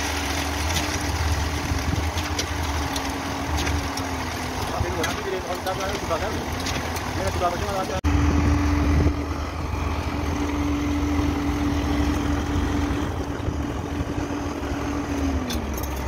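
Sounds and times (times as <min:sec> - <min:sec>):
concrete pump truck engine rumble: 0:00.0 - 0:16.0
pump whine: 0:00.0 - 0:16.0.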